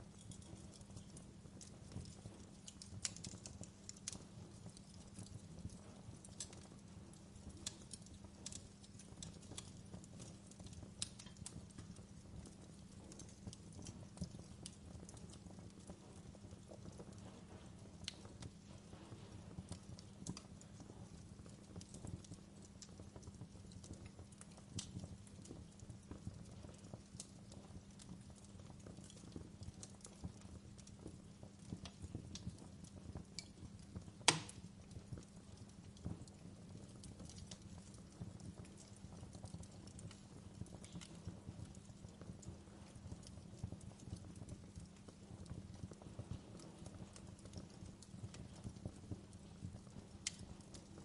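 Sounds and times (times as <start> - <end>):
low rumble of burning logs: 0.0 - 51.0
wood fire crackling: 0.0 - 51.0.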